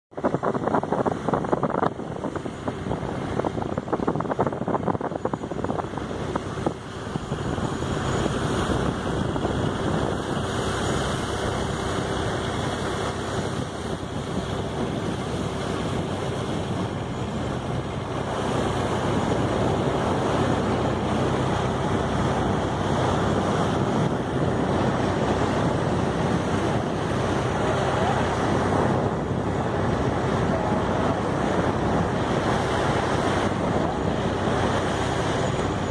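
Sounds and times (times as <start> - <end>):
sea washing: 0.1 - 35.9
wind buffeting microphone: 0.1 - 35.9.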